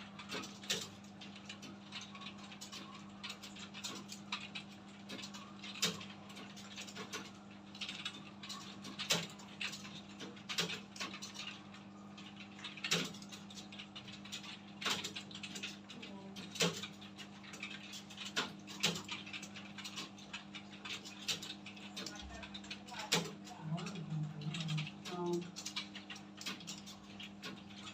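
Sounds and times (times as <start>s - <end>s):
keyboard typing clatter: 0.0s - 27.9s.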